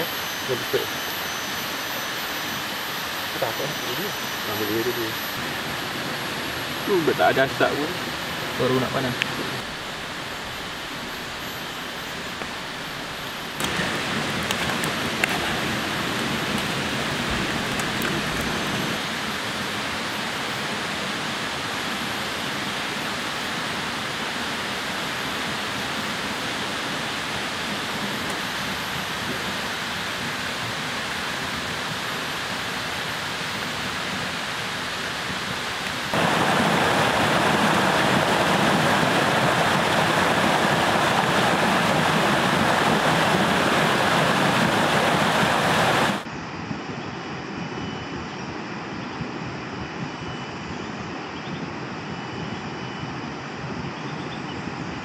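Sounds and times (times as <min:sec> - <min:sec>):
rushing water hiss: 0:00.0 - 0:46.3.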